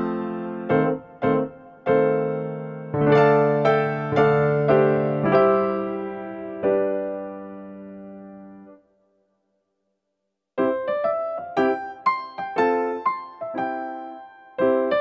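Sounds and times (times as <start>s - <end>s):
electric piano slow melody: 0.0s - 8.8s, 10.6s - 15.0s.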